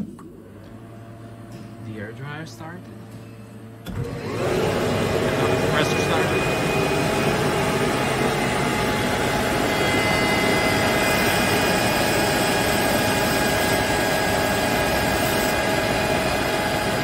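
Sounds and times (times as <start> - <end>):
air compressor running: 0.0 - 17.0
steady whining tones: 0.0 - 17.0.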